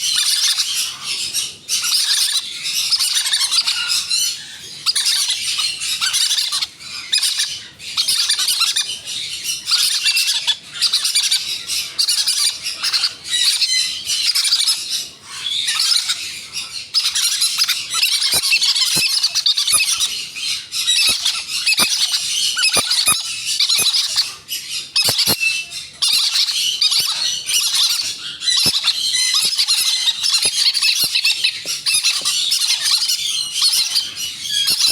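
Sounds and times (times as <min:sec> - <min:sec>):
parrots squawking raspily: 0:00.0 - 0:34.9.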